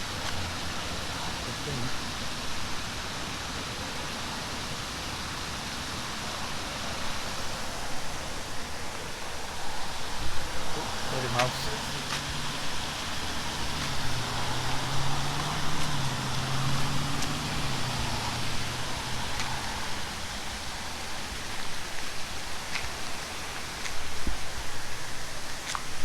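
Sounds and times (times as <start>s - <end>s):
steady hissing background noise: 0.0s - 26.0s.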